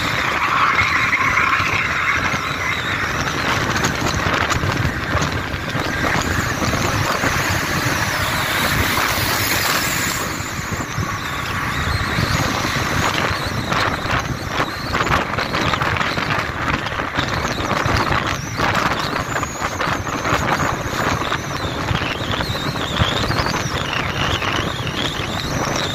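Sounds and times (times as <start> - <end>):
road and wind noise: 0.0 - 25.9.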